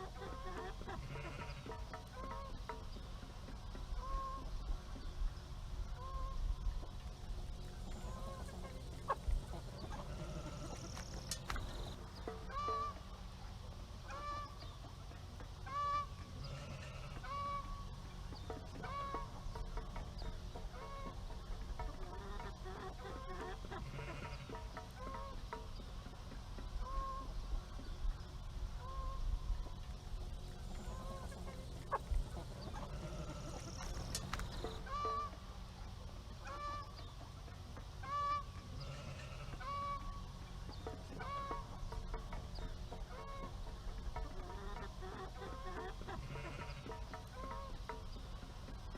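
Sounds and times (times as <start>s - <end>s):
farm fowl honking: 0.0s - 3.0s, 3.6s - 4.7s, 5.9s - 6.6s, 7.8s - 26.2s, 26.8s - 27.5s, 28.8s - 29.4s, 30.4s - 48.8s
low background rumble: 0.0s - 48.9s.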